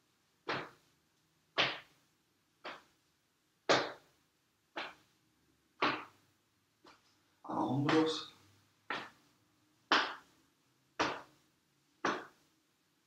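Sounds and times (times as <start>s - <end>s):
hands slapping chest and shoulders: 0.4s - 0.9s, 1.5s - 11.4s, 12.0s - 12.5s.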